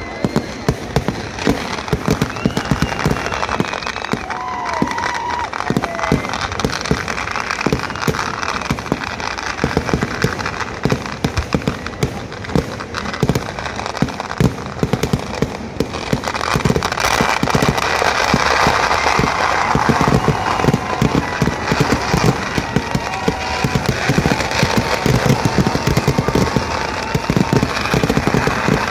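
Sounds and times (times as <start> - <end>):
firework bangs: 0.0 - 28.9
loud hissing rush: 0.0 - 28.9.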